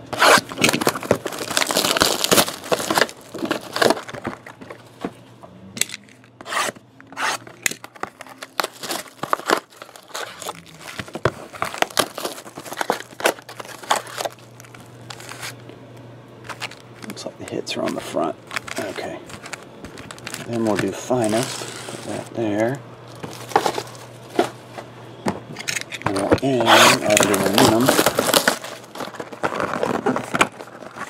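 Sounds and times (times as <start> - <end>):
plastic shrink wrap tearing: 0.0 - 4.6, 6.5 - 15.6, 16.5 - 24.1, 26.1 - 31.0
foil packs rustling: 0.0 - 5.1, 7.4 - 15.6, 16.4 - 24.6, 26.0 - 31.0
plastic wrapper crinkling: 0.1 - 4.8, 7.5 - 15.7, 16.4 - 24.5, 26.0 - 31.0.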